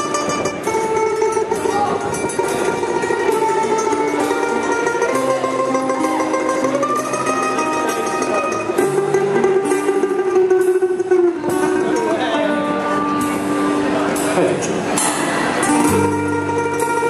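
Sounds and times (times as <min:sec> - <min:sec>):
acoustic guitar: 0:00.0 - 0:17.0
double bass: 0:00.0 - 0:17.0
mandolin: 0:00.0 - 0:17.0.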